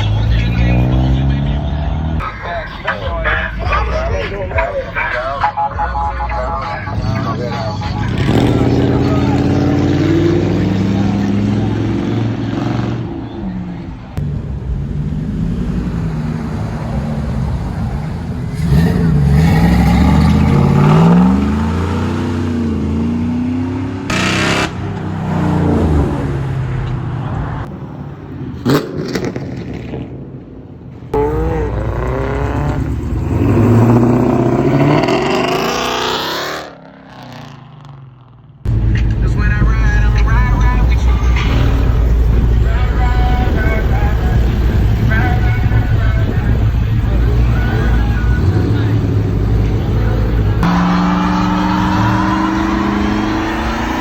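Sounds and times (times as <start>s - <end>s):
car engines revving past: 0.0s - 5.4s, 6.4s - 54.0s.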